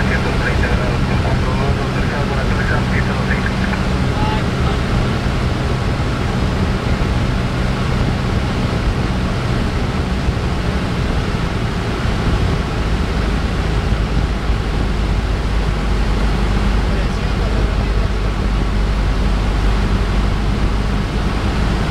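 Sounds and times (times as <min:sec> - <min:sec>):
airplane engine and propeller: 0:00.0 - 0:21.9.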